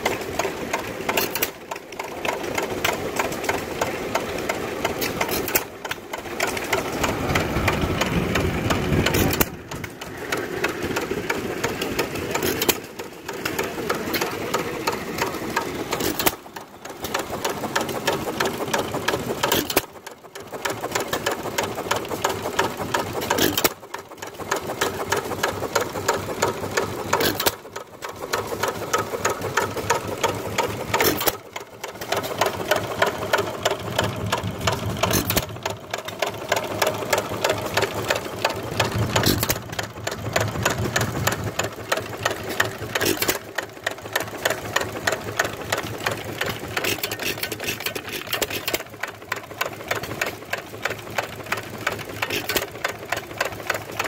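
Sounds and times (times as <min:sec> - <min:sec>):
stationary gas engine clacking: 0:00.0 - 0:54.0.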